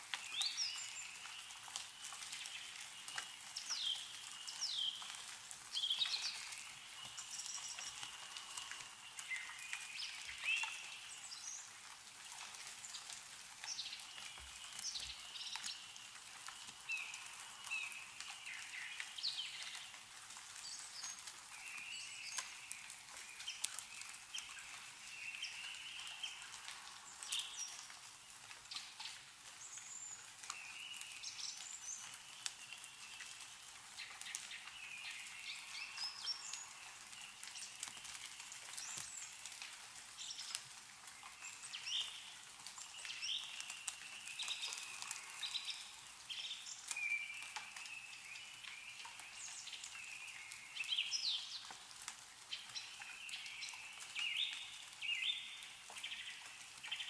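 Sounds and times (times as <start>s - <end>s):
meltwater dripping from trees: 0.0s - 57.0s
songbirds chirping: 0.0s - 57.0s.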